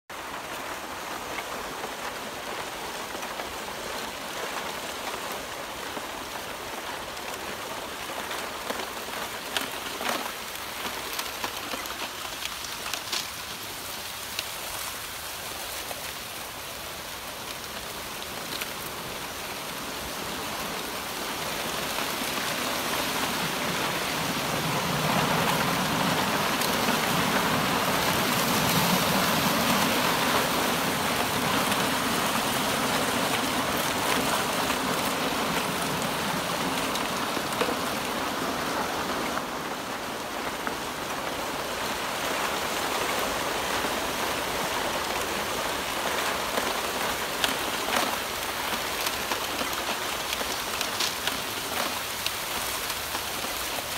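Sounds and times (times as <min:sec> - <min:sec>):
rushing water hiss: 0:00.1 - 0:53.9.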